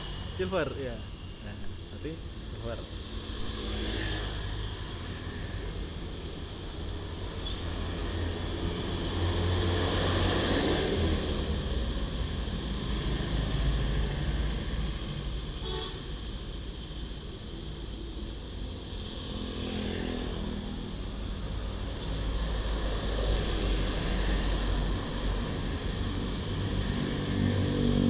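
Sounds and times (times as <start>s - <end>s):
low traffic rumble: 0.0s - 28.0s.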